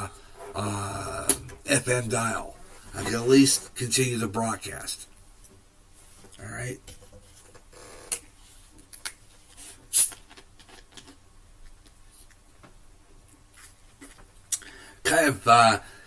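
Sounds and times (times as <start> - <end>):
faint room noise: 0.0 - 16.0.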